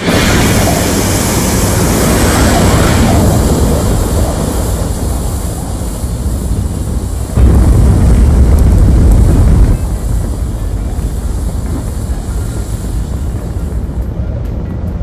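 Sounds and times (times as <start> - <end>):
rocket thrusters rumbling: 0.0 - 15.0.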